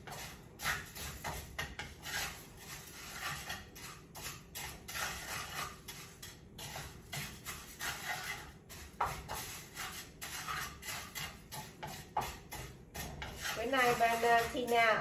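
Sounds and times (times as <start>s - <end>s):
wooden spatula scraping rice in pan: 0.0s - 15.0s.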